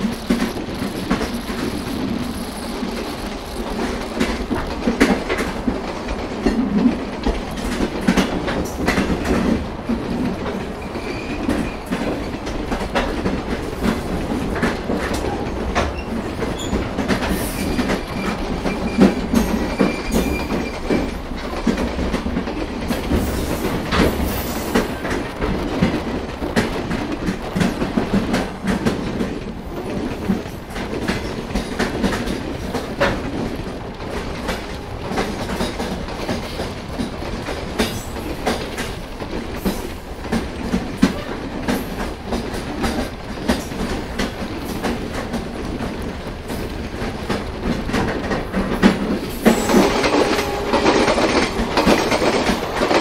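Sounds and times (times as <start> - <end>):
train coaches rumbling: 0.0 - 53.0
wheels clattering over rail joints: 0.0 - 53.0.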